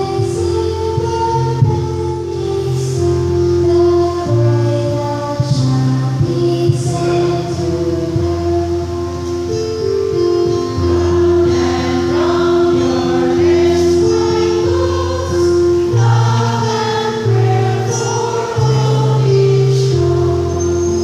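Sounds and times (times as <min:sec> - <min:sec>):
choir singing a hymn: 0:00.0 - 0:09.5, 0:10.4 - 0:21.0
held accompaniment notes: 0:00.0 - 0:21.0.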